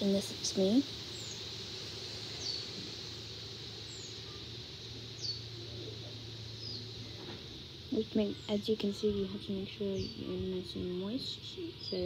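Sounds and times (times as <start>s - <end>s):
bird chirping: 0.0s - 12.0s
low steady hum: 0.0s - 12.0s.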